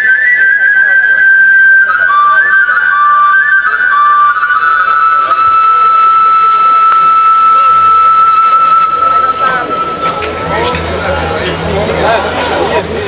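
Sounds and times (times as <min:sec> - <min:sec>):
flute-like solo melody: 0:00.0 - 0:11.8.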